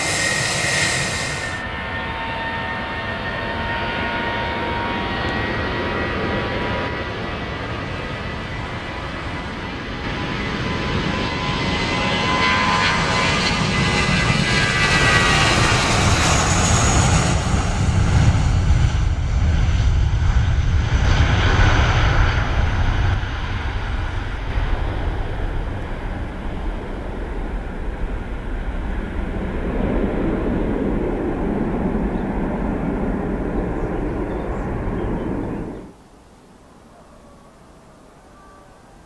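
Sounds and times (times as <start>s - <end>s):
jet engines roaring at takeoff: 0.0s - 36.0s.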